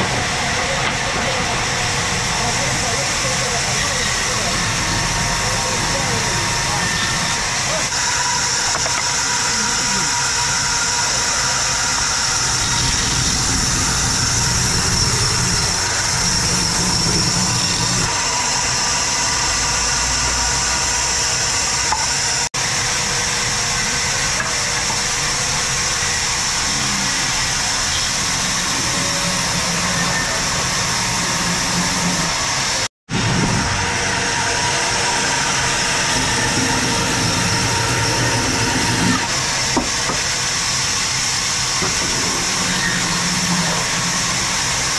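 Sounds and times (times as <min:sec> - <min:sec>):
band saw cutting log: 0:00.0 - 0:44.9.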